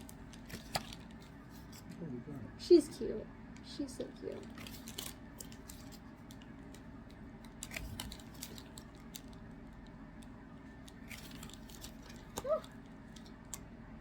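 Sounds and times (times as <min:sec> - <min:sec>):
trading cards rustling and clicking: 0:00.0 - 0:02.0, 0:04.3 - 0:13.7.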